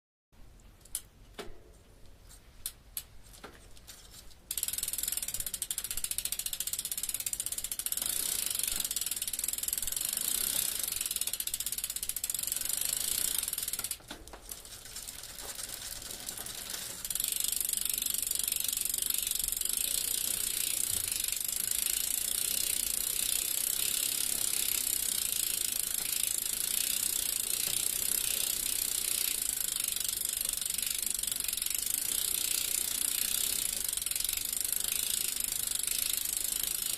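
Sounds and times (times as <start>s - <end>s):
bicycle freewheel ratchet clicking: 4.5s - 36.9s.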